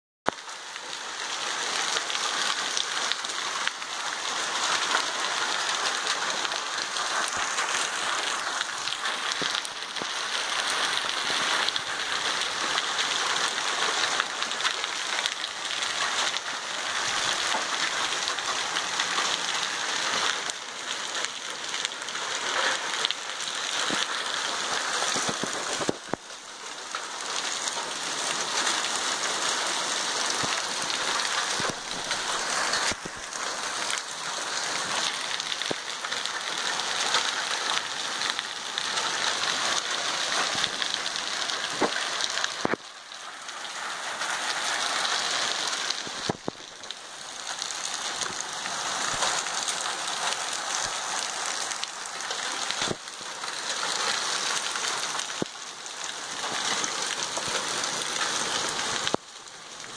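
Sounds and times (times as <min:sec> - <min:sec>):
heavy rain on floodwater: 0:00.3 - 0:59.9.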